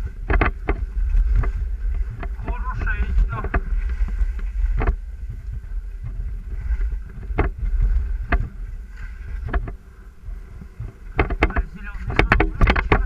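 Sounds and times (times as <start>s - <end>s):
skis and poles moving through snow: 0.0s - 13.0s
wind rumble on microphone: 0.0s - 13.0s.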